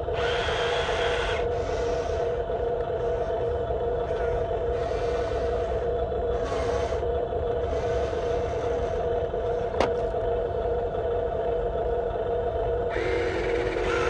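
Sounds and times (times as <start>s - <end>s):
electric motor and gear whine: 0.0s - 14.0s
low rumble: 1.2s - 14.0s.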